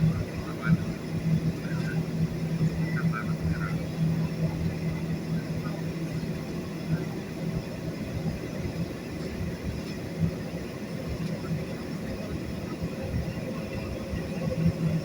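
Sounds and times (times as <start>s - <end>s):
jet engine rumble in cabin: 0.0s - 15.0s.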